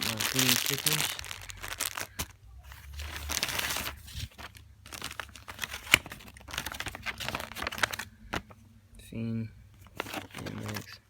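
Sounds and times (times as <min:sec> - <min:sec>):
packaging crinkling: 0:00.0 - 0:08.6, 0:09.8 - 0:11.0.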